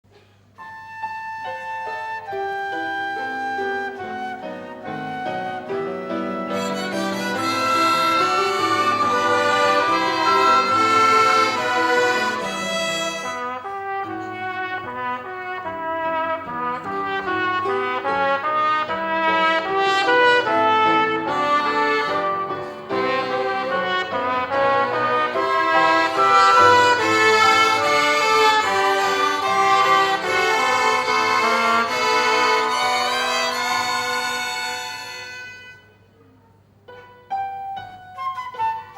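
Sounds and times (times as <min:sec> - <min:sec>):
violin ensemble playing a hymn: 0:03.1 - 0:35.7.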